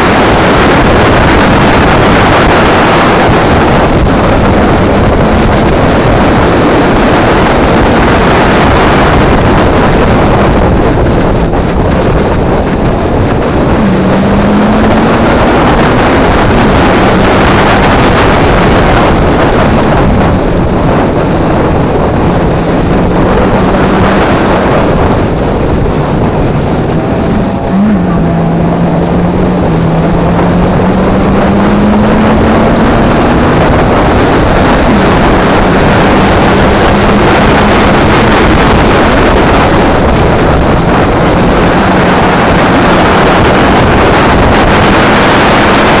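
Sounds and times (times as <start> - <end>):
car engine at speed: 0.0 - 46.0
wind noise on microphone: 0.0 - 46.0.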